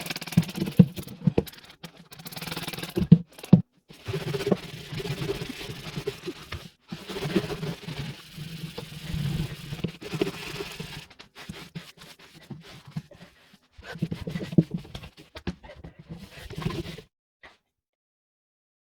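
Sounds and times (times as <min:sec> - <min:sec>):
scrubbing and scraping a fridge: 0:00.0 - 0:17.0.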